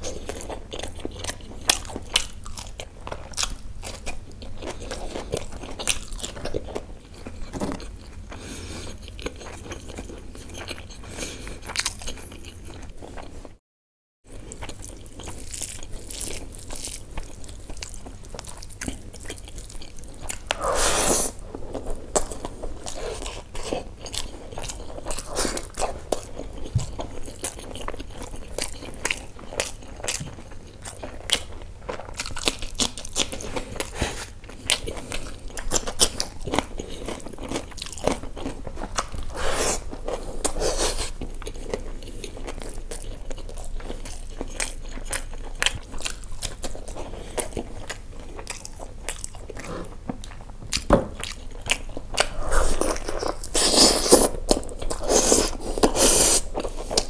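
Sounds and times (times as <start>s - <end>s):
wet chewing and crunching: 0.0s - 13.6s, 14.3s - 57.0s.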